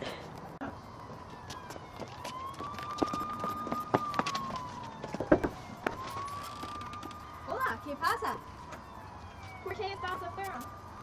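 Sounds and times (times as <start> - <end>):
police siren wailing: 0.6 - 11.0.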